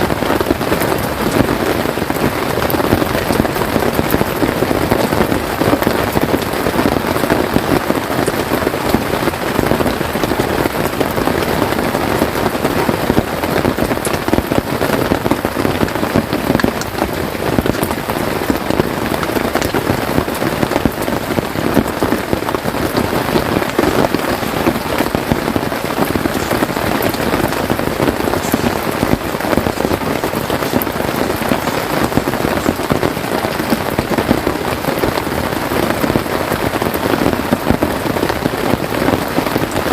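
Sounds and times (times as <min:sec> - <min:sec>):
heavy rain pattering on a tent: 0:00.0 - 0:39.9.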